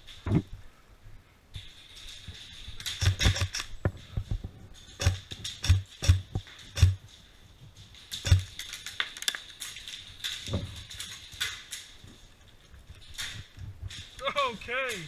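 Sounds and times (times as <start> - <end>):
sharp clicks and ticks: 1.6 - 15.0.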